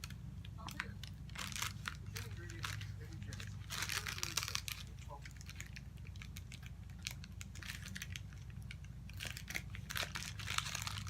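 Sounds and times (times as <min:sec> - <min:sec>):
steady low hum: 0:00.0 - 0:11.0
wax paper peeling crackle: 0:00.0 - 0:11.0.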